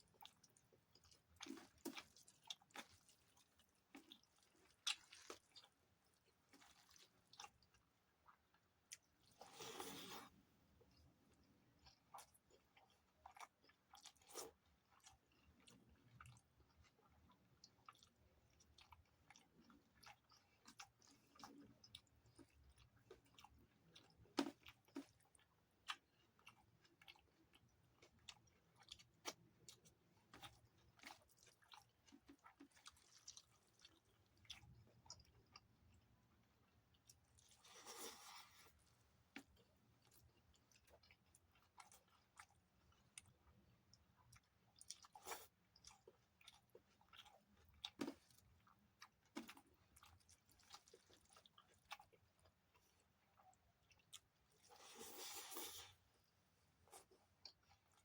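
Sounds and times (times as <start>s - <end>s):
chewing and mouth clicks: 0.0s - 10.2s, 10.9s - 56.0s, 56.8s - 58.0s.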